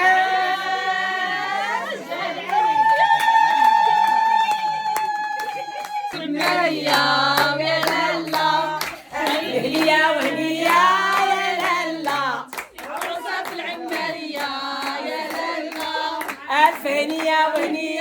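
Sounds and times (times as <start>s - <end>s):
group of voices singing: 0.0s - 18.0s
rhythmic hand clapping: 2.3s - 18.0s.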